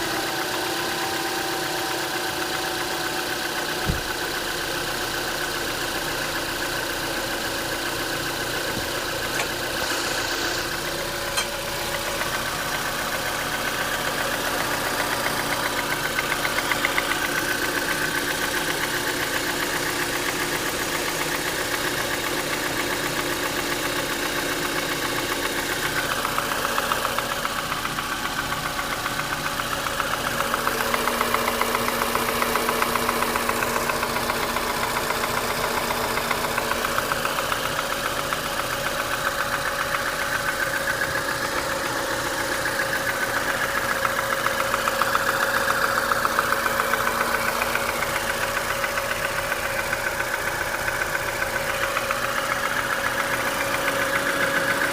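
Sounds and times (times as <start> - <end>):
car engine knocking: 0.0 - 54.9.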